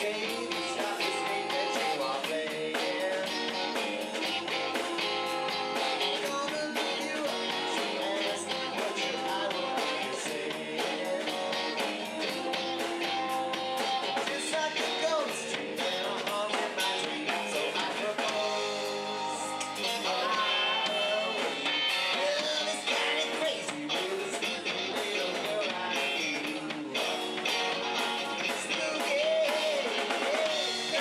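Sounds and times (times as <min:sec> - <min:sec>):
man singing: 0:00.0 - 0:27.6, 0:28.4 - 0:31.0
live rock band playing: 0:00.0 - 0:31.0.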